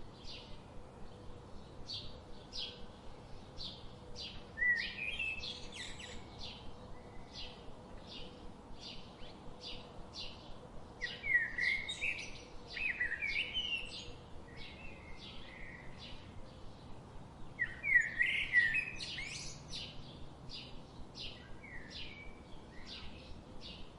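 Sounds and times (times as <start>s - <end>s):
birds chirping and warbling: 0.1s - 23.9s.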